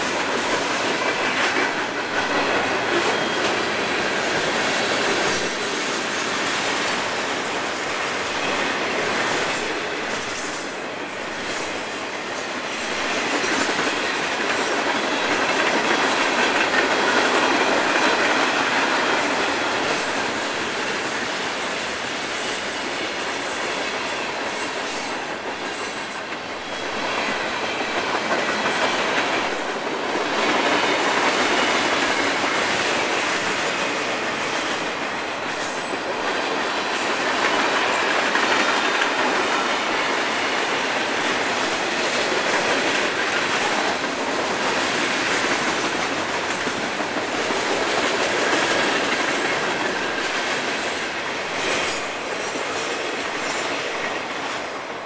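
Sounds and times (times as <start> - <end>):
train wheels rattling on rails: 0.0 - 55.0.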